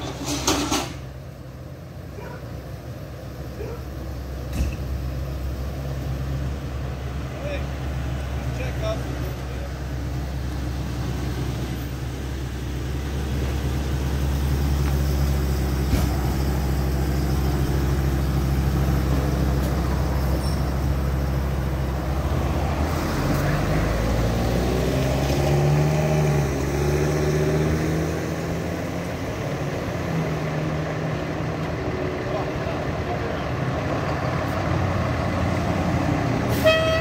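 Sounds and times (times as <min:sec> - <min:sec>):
ambulance engine running: 0:00.0 - 0:24.4, 0:28.7 - 0:37.0
fire engine pulling away: 0:00.0 - 0:37.0.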